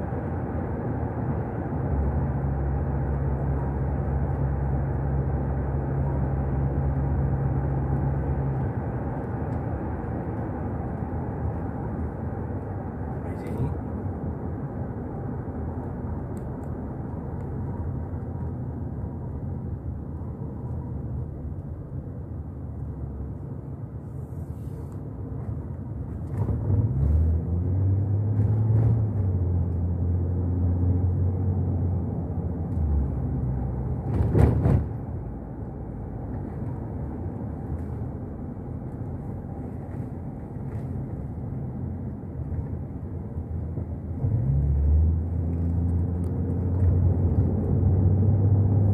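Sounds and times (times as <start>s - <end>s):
deep engine drone rising: 0.0s - 34.2s, 34.9s - 48.9s
road and engine noise in car: 0.0s - 48.9s.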